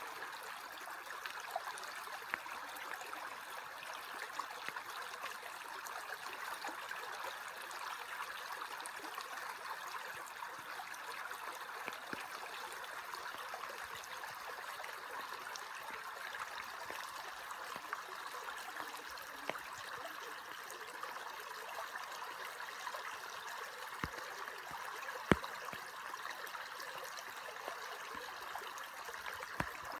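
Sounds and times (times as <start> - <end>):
creek water babbling over gravel: 0.0 - 30.0.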